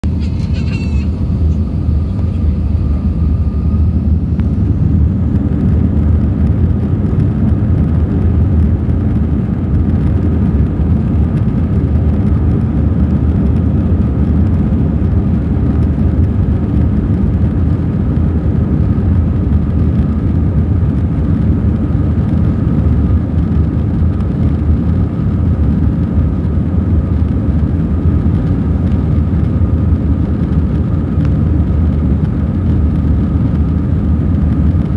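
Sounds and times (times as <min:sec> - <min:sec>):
faint steady whine: 0:00.0 - 0:34.9
jet engine cabin rumble: 0:00.0 - 0:34.9.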